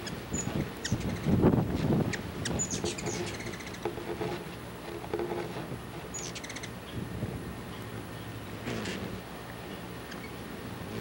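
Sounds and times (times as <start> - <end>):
hummingbirds chattering: 0.0 - 11.0.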